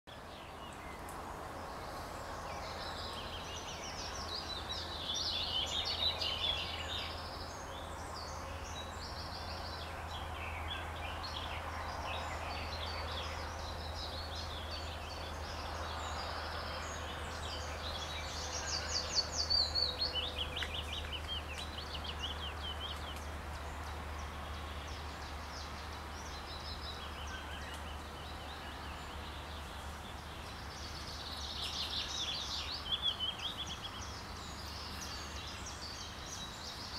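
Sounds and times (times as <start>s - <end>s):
birds singing and calling: 0.1s - 36.9s.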